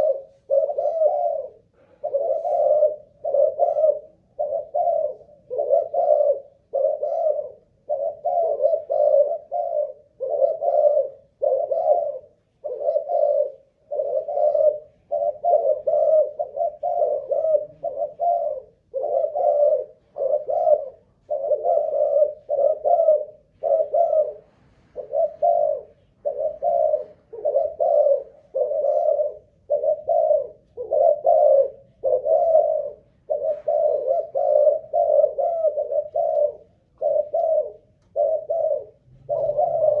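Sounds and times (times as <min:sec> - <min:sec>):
dove cooing: 0:00.0 - 0:40.0.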